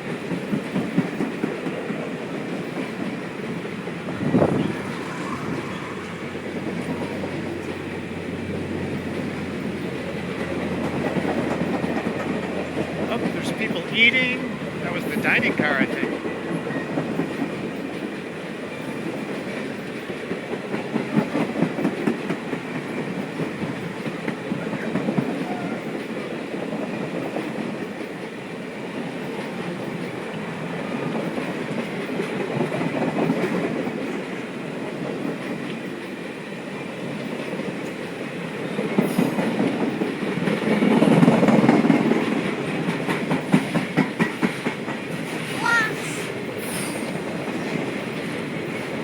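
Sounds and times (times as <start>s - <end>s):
train wheels clickety-clack: 0.0s - 49.0s.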